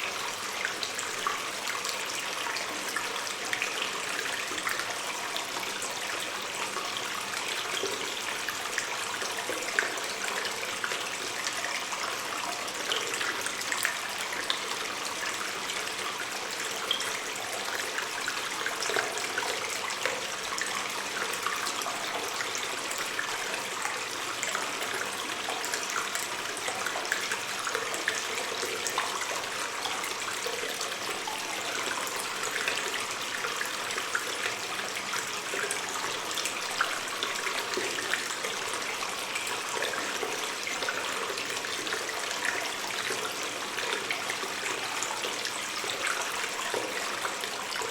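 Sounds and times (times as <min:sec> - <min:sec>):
water stream trickling: 0:00.0 - 0:47.9.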